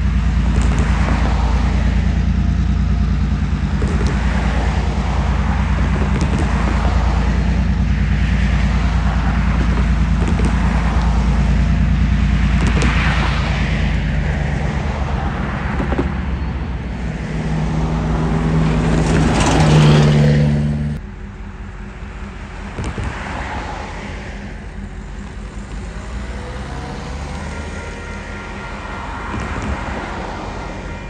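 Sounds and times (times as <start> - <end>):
light traffic noise: 0.0 - 31.0
low engine rumble: 0.0 - 31.0
vehicles passing close by: 0.0 - 31.0.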